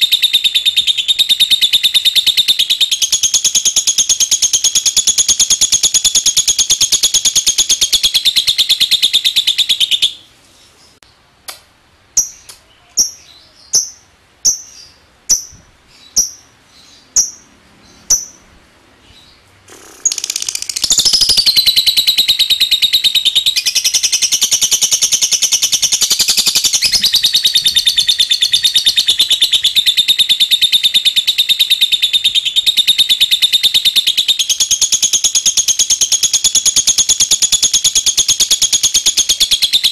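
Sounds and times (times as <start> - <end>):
bird high-pitched trill: 0.0 - 10.3, 12.2 - 18.5, 19.1 - 39.9.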